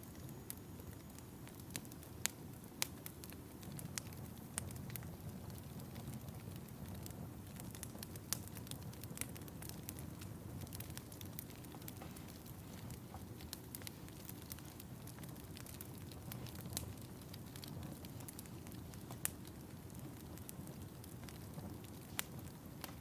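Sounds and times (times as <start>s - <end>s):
low steady fire rumble: 0.0s - 23.0s
wood fire crackling and popping: 0.0s - 23.0s.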